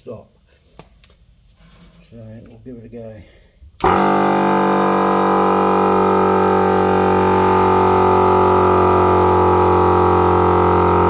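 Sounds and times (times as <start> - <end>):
air compressor humming: 1.3 - 11.0.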